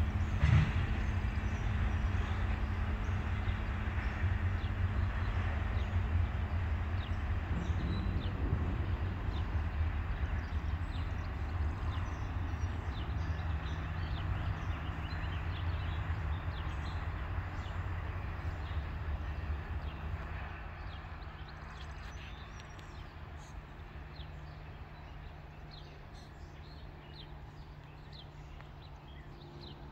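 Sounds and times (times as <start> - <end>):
freight train rumbling: 0.0 - 29.9.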